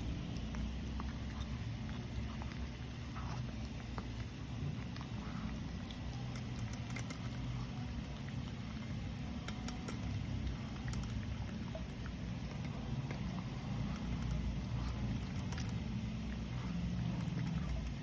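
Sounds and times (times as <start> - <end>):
dog eating from bowl: 0.0 - 18.0
steady low hum: 0.0 - 18.0.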